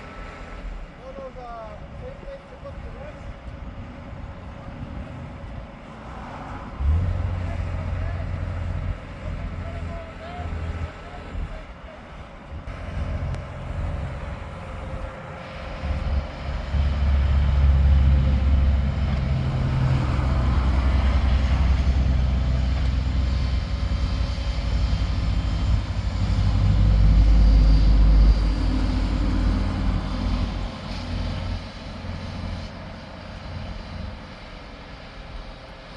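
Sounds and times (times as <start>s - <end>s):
diesel engine rumbling: 0.0s - 35.9s.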